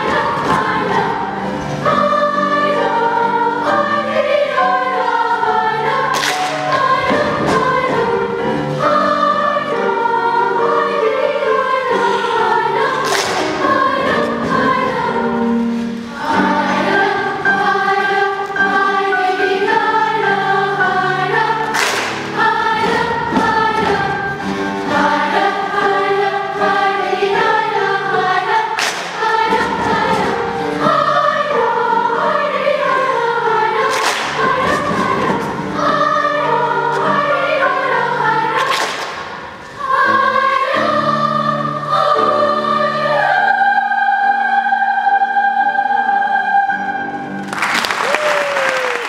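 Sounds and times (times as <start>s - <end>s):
children's choir singing: 0.0s - 49.0s.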